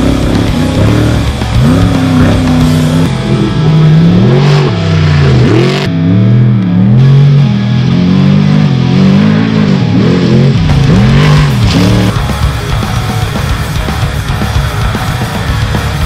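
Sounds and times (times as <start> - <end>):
bass guitar: 0.0 - 16.0
distorted electric guitar: 0.0 - 16.0
heavy rock music: 0.0 - 16.0.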